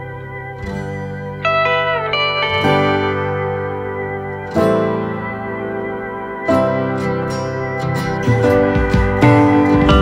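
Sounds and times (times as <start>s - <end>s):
sustained music chords: 0.0s - 10.0s.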